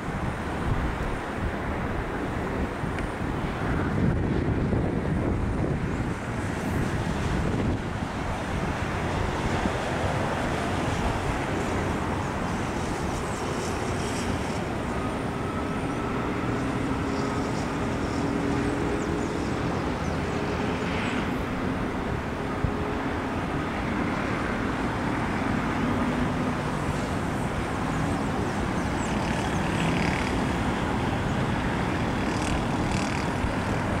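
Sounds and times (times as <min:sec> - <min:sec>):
distant jet engine rumble: 0:00.0 - 0:34.0
wind hiss: 0:00.0 - 0:34.0.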